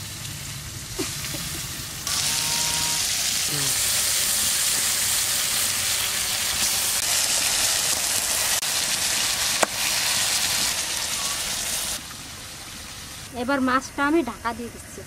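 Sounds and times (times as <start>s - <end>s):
fish sizzling in hot oil: 0.0s - 13.4s.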